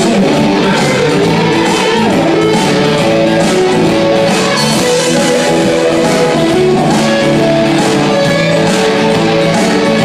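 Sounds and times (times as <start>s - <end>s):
electric guitars: 0.0s - 10.0s
live rock band playing: 0.0s - 10.0s.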